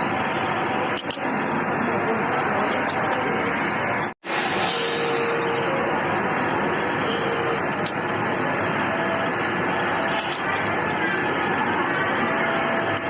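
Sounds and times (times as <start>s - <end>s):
industrial sewing machines running: 0.0s - 13.0s.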